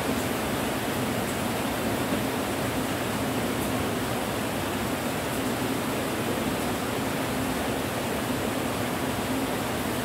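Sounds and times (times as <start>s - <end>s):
steady rainfall: 0.0s - 10.0s.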